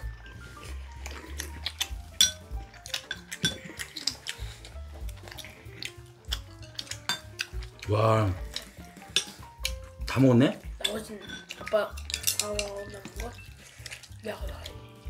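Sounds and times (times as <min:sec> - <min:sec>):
background music: 0:00.0 - 0:15.0
chopsticks clinking on ceramic plates: 0:01.2 - 0:14.2.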